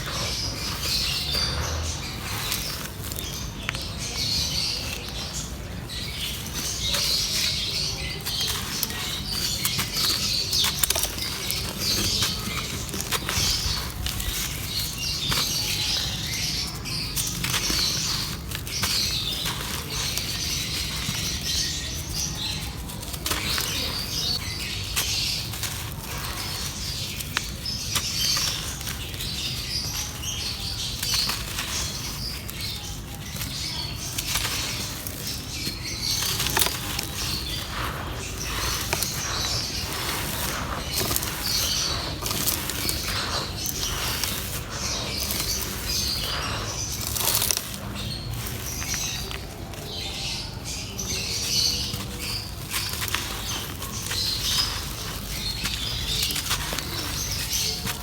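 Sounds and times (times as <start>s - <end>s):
dry clay crunching and crackling: 0.0s - 58.0s.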